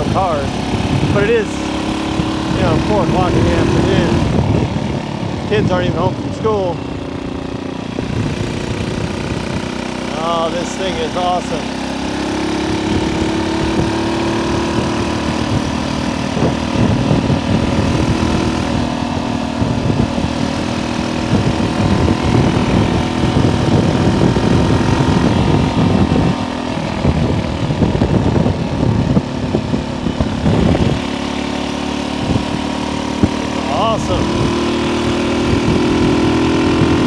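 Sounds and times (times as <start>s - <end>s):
wind buffeting microphone: 0.0s - 10.1s, 10.8s - 37.0s
motorcycle engine running: 0.0s - 37.0s.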